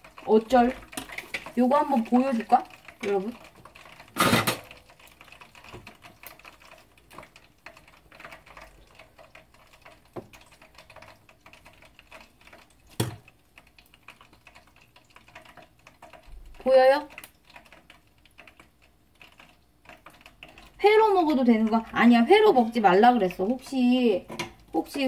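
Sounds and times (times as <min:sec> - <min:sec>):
crackling and ticking of fried food: 0:00.0 - 0:25.0.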